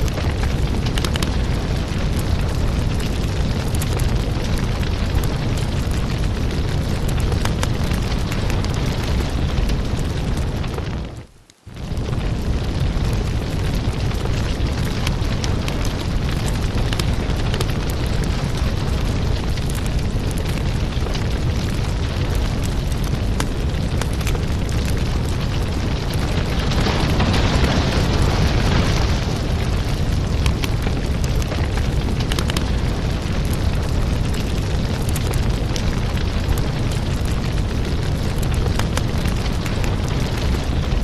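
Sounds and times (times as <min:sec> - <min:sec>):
fire low rumble: 0:00.0 - 0:41.0
wood fire crackling and popping: 0:00.0 - 0:41.0.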